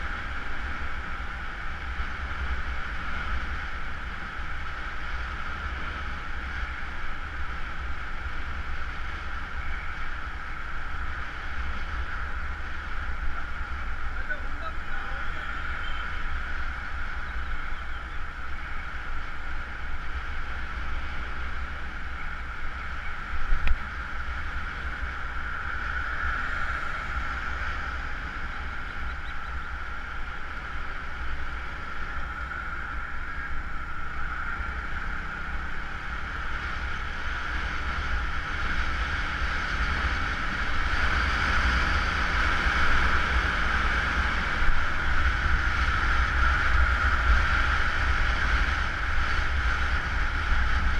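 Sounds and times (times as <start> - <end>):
road rumble: 0.0 - 50.9
rushing wind: 0.0 - 50.9.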